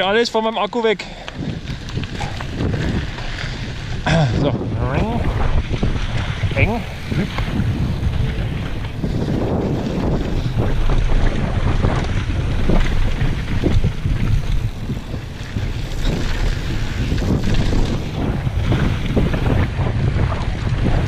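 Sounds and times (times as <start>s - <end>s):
wind buffeting microphone: 0.0s - 21.0s
tyres rumbling over gravel: 0.2s - 21.0s
bike knocks and rattles: 1.4s - 21.0s.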